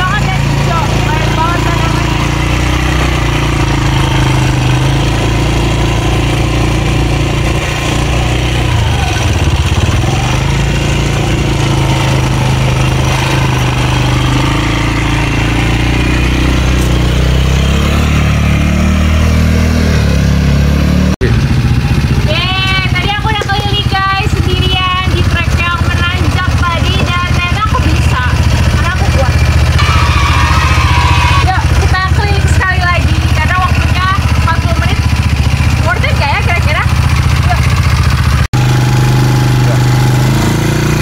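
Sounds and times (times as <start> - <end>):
quad bike engine running: 0.0 - 41.0.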